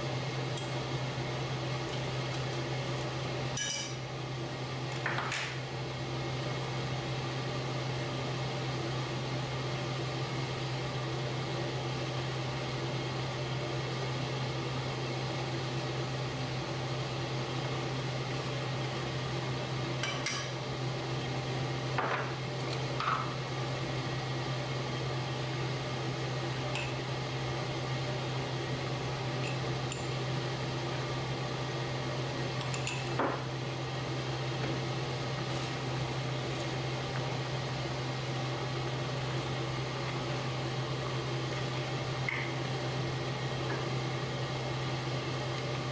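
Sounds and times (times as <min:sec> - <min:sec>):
low kitchen hum: 0:00.0 - 0:45.9
stock simmering in a wok: 0:05.6 - 0:32.6, 0:33.4 - 0:45.9.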